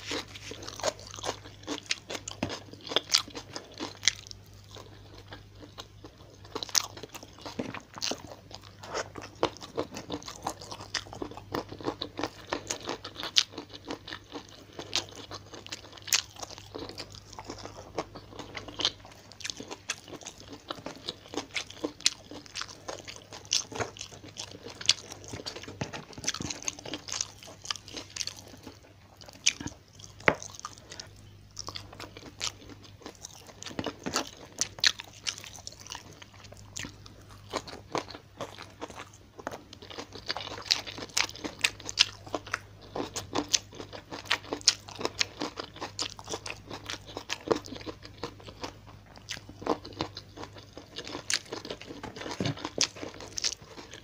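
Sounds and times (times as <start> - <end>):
faint low hum: 0.0 - 54.0
person chewing with wet crunches: 0.0 - 54.0.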